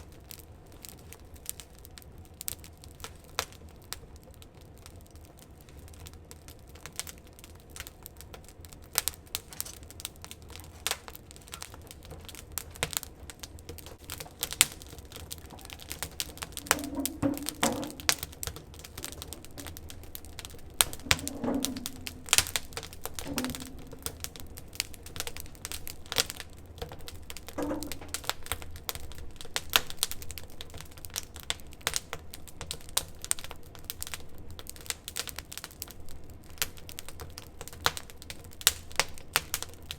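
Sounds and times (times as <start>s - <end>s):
burning wood popping: 0.0s - 39.9s
wood fire crackling: 0.0s - 39.9s.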